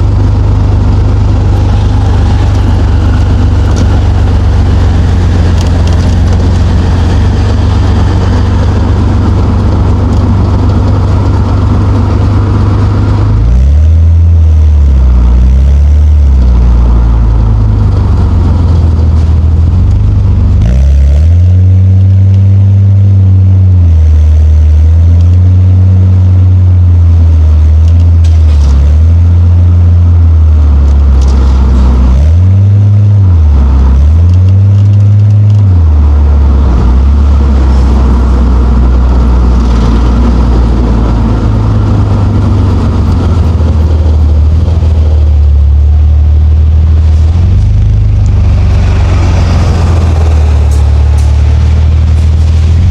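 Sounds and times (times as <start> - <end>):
car engine accelerating: 0.0 - 52.9.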